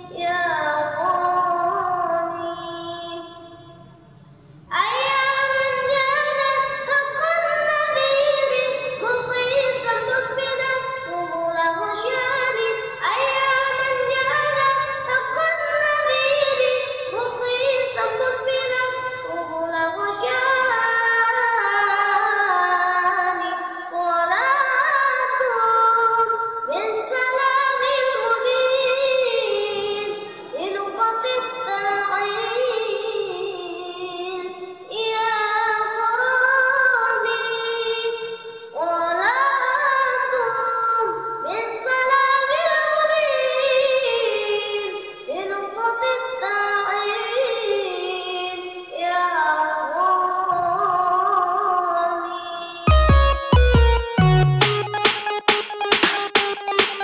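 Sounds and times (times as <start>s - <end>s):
boy singing devotional song: 0.0s - 52.9s.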